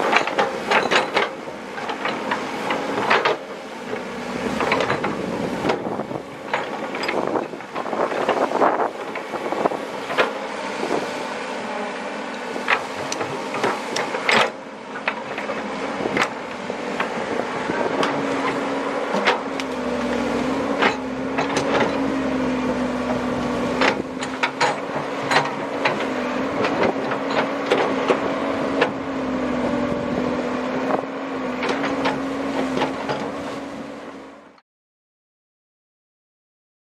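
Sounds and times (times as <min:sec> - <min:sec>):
excavator diesel engine under load: 0:00.0 - 0:34.6.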